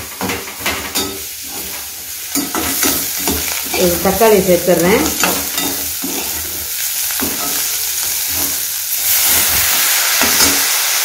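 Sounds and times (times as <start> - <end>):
vegetables sizzling in hot oil: 0.0 - 11.0
metal ladle scraping pan: 0.2 - 10.8.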